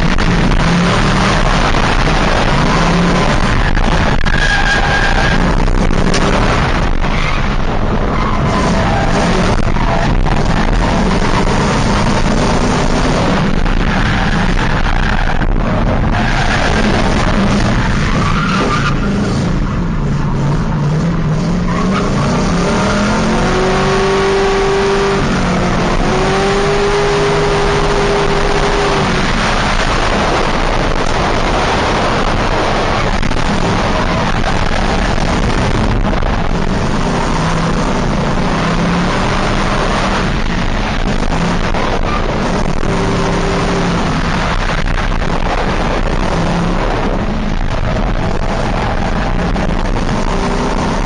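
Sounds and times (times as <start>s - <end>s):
car engine revving hard: 0.0s - 51.0s.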